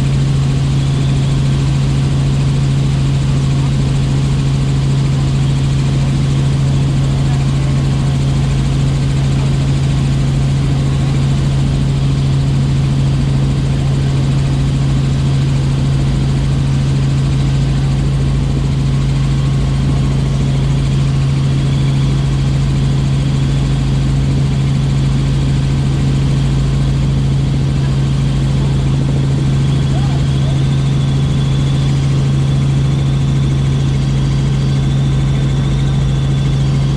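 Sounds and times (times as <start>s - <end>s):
helicopter cabin drone: 0.0s - 36.9s.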